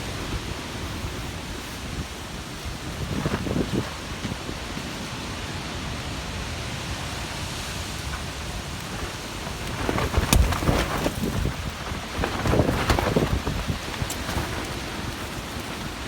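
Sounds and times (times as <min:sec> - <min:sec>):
steady rain hiss: 0:00.0 - 0:16.0
wind buffeting microphone: 0:00.0 - 0:16.0.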